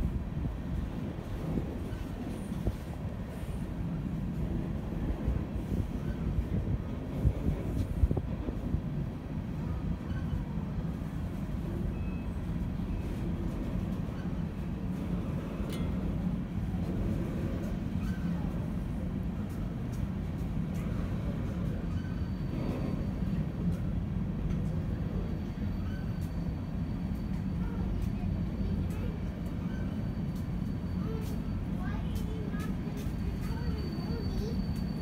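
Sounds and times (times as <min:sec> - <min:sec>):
hopper cars rumbling on rails: 0:00.0 - 0:35.0.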